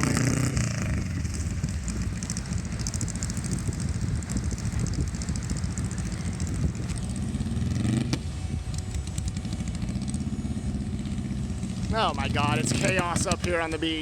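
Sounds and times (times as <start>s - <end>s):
vehicle engine revving: 0.0s - 13.6s.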